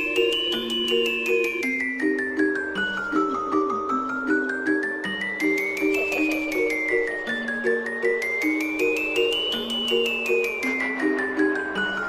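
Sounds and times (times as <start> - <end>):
mallet percussion melody: 0.0 - 12.0.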